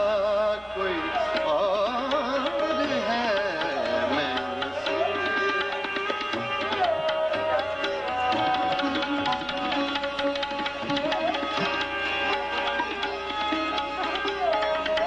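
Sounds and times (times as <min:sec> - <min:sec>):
sustained harmonium notes: 0:00.0 - 0:15.0
tabla strokes: 0:00.0 - 0:15.0
sliding melody line: 0:01.1 - 0:15.0.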